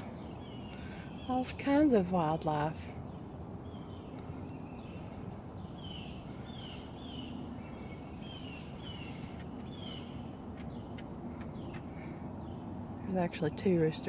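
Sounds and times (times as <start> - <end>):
bird chirping: 0.0 - 12.8
outdoor background hiss: 0.0 - 14.0.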